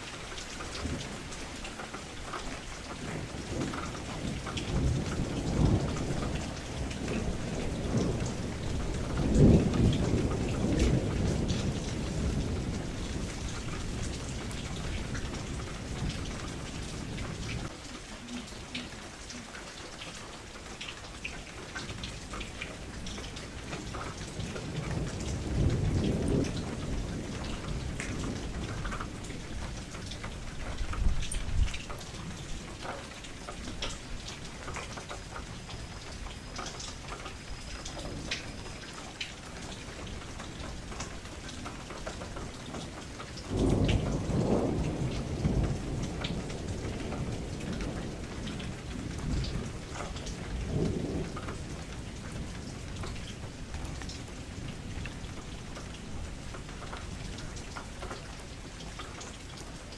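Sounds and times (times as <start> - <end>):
rain on a window: 0.0 - 59.9
sharp raindrop ticks: 0.0 - 59.9
low thunder rumbles: 2.5 - 19.5, 21.9 - 58.6.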